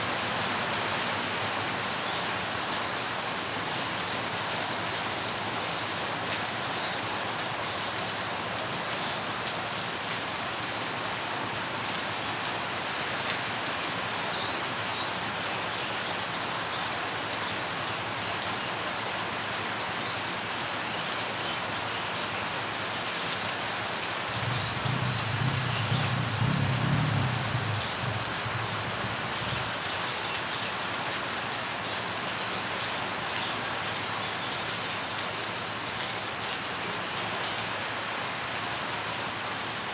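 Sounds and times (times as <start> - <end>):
rain on water: 0.0 - 39.9.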